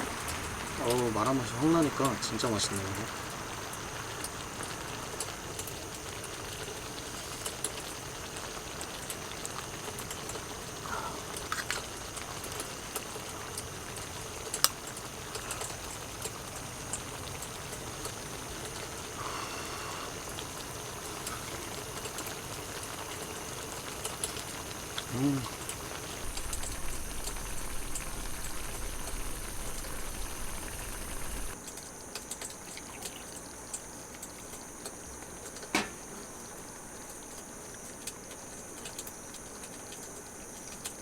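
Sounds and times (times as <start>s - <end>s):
stew bubbling in a pot: 0.0s - 41.0s.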